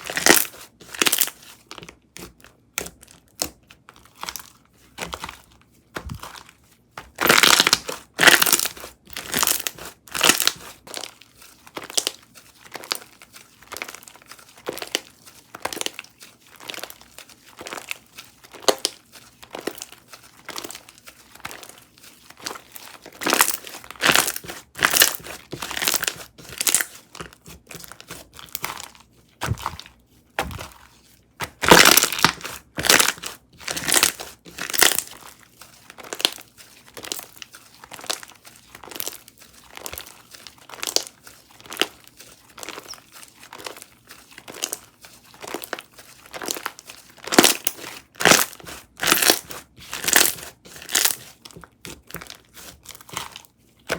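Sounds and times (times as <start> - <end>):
slime crackling and popping: 7.1 - 43.8, 44.4 - 53.9.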